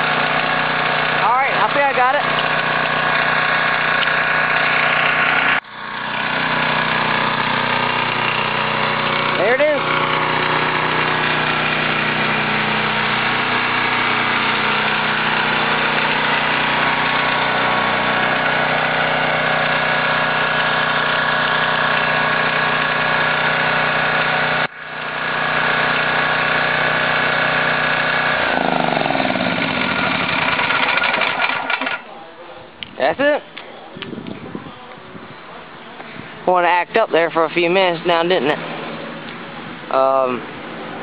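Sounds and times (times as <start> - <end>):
generator engine running: 0.0 - 32.3, 33.0 - 41.0.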